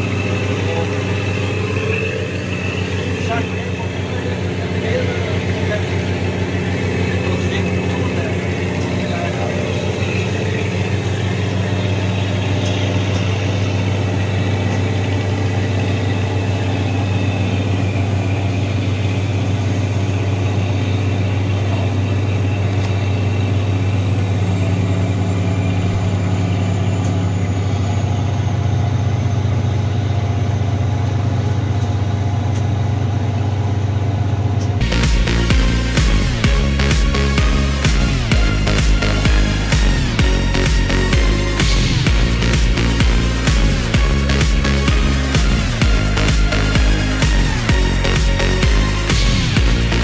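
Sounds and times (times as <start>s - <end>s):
boat diesel engine humming: 0.0s - 50.0s.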